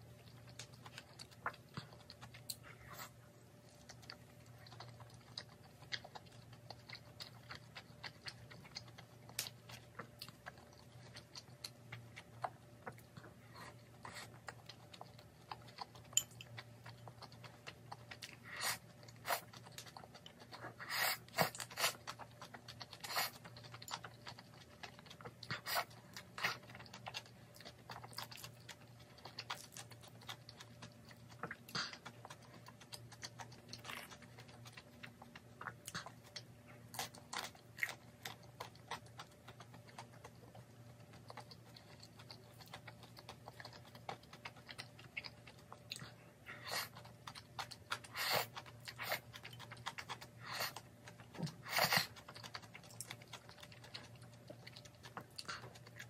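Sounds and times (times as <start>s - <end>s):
chewing and crunching dumplings: 0.0s - 56.0s
faint steady hum: 0.0s - 56.0s.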